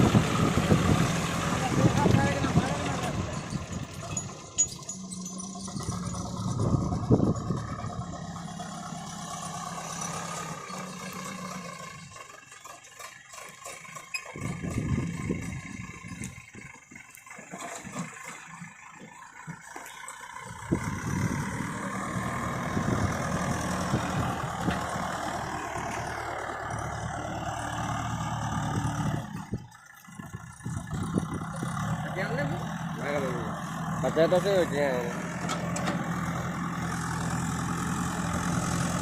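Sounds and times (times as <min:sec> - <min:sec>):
diesel engine of heavy machinery: 0:00.0 - 0:39.0.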